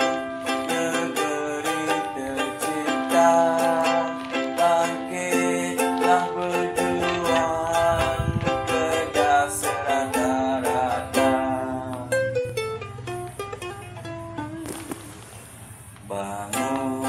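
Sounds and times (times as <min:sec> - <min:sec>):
acoustic plucked strings music: 0:00.0 - 0:15.3, 0:16.1 - 0:17.0.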